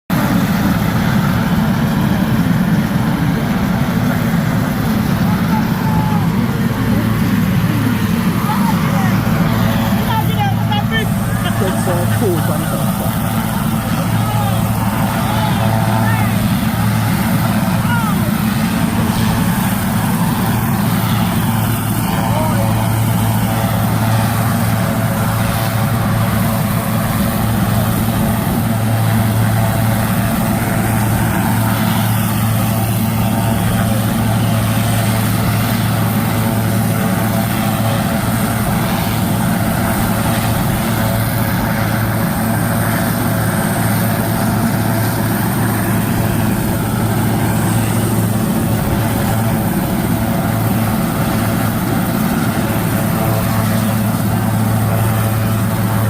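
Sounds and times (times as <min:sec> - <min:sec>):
engine humming steadily: 0:00.1 - 0:56.0.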